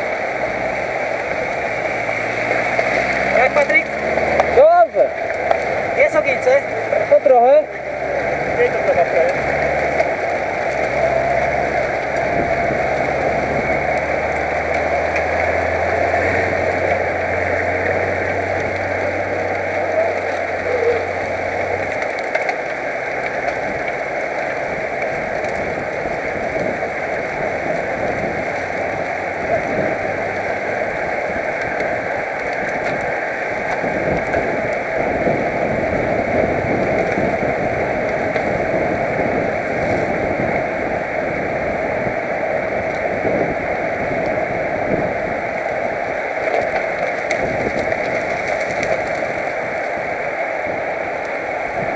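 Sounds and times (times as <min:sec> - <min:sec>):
road noise: 0:00.0 - 0:51.9
rushing wind: 0:00.0 - 0:51.9.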